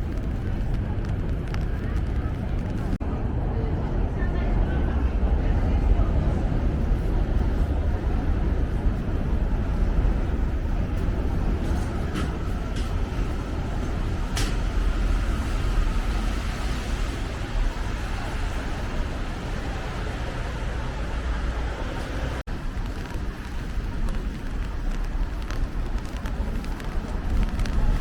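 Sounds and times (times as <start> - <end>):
cars and buses passing: 0.0 - 28.0.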